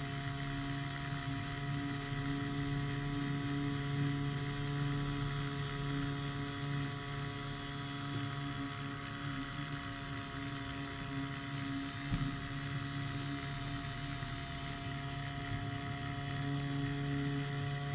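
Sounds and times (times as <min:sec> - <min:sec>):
engine and propeller drone: 0:00.0 - 0:17.9.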